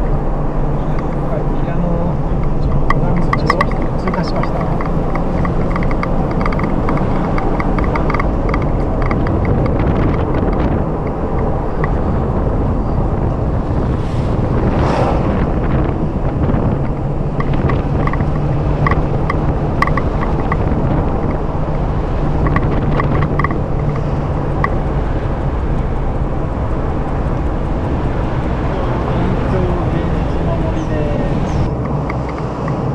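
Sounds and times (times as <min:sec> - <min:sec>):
small ticks and rattles: 0:00.0 - 0:12.4, 0:16.5 - 0:32.9
car engine and road rumble: 0:00.0 - 0:32.9
low hum: 0:00.0 - 0:32.9.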